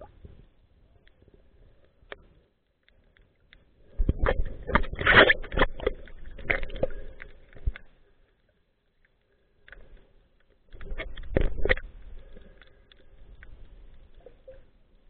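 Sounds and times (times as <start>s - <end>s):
underwater bubbling and crackling: 0.0s - 15.0s.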